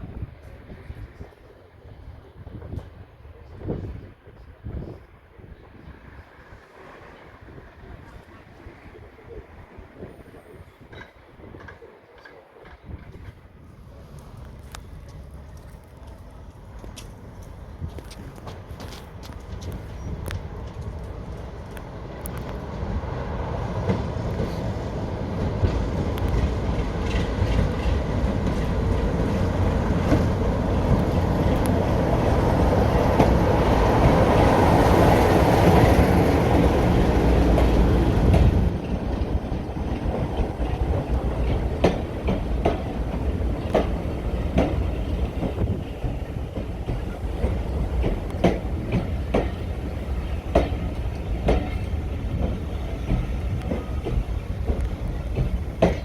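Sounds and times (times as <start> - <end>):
diesel train engine rumble: 0.0 - 56.0.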